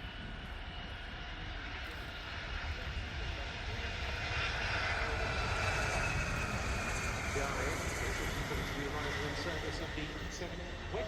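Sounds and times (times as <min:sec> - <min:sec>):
aircraft engine flying by: 0:00.0 - 0:11.0.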